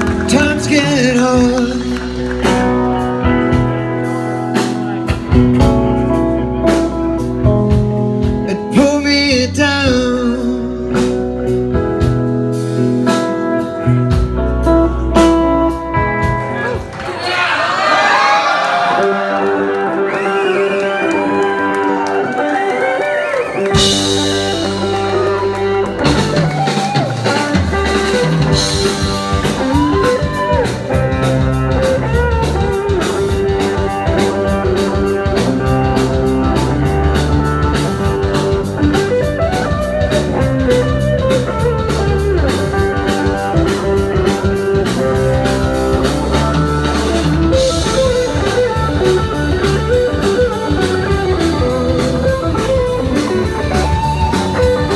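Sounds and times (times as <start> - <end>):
electric guitar lead notes: 0.0 - 17.1, 18.9 - 54.9
bass guitar: 0.0 - 54.9
rock band with drums: 0.0 - 54.9.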